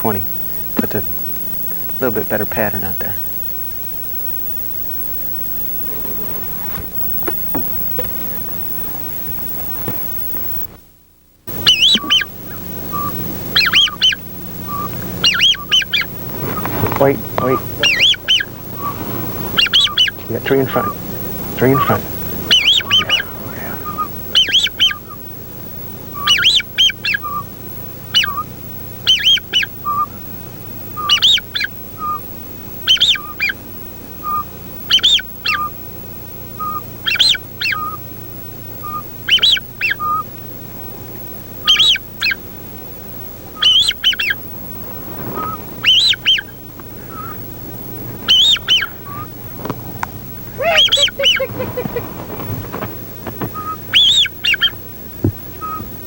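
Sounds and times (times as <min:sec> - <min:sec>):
high whistled calls: 0:00.0 - 0:10.7, 0:11.5 - 0:25.3, 0:26.1 - 0:27.5, 0:28.1 - 0:30.1, 0:31.0 - 0:33.6, 0:34.2 - 0:35.8, 0:36.6 - 0:38.0, 0:38.8 - 0:40.3, 0:41.6 - 0:42.4, 0:43.6 - 0:49.4, 0:50.2 - 0:54.8, 0:55.6 - 0:55.9.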